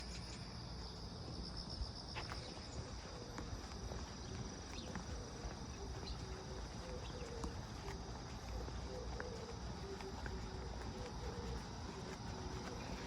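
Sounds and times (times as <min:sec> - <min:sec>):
footsteps on forest road: 0:00.0 - 0:13.0
insects chirring: 0:00.0 - 0:13.0.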